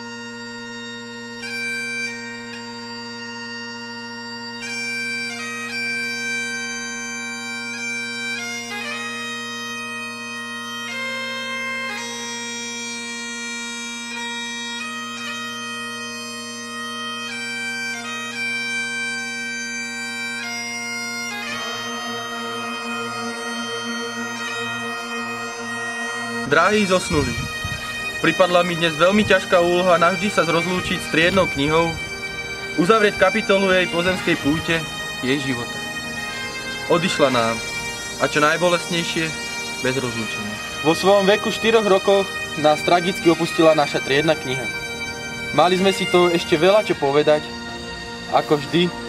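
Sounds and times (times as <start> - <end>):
bagpipe melody with drones: 0.0 - 49.0.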